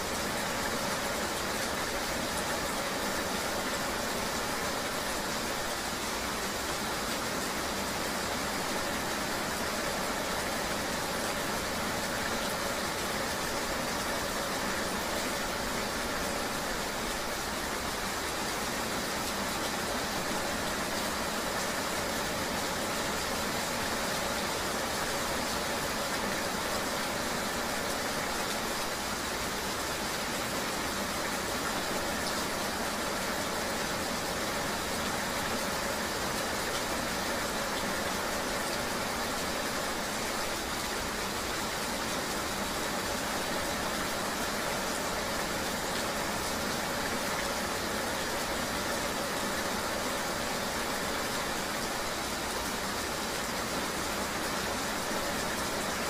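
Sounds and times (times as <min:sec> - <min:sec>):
rain: 0:00.0 - 0:56.0.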